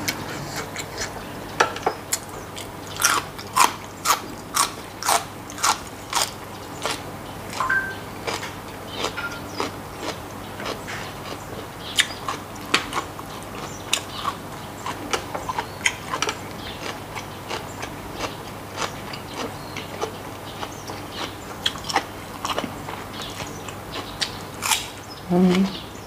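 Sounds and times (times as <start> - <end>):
chewing with wet mouth clicks: 2.1 - 24.9.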